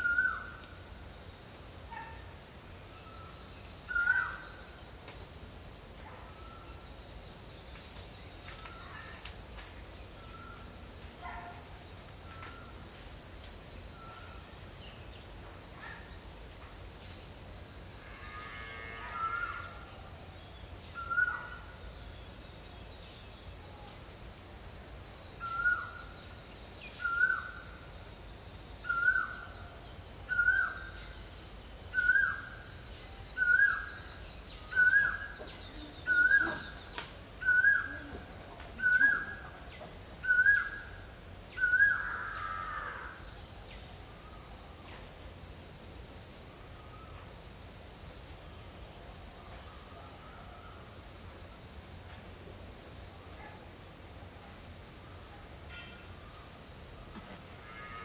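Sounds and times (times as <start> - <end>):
high insect buzz: 2.9 - 49.9, 50.9 - 58.0.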